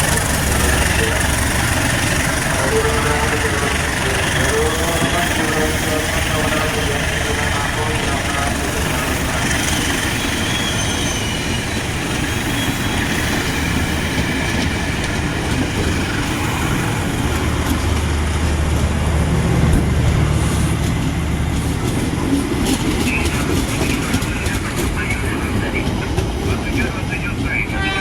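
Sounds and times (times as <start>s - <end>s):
wheels rumbling on rail: 0.0s - 28.0s.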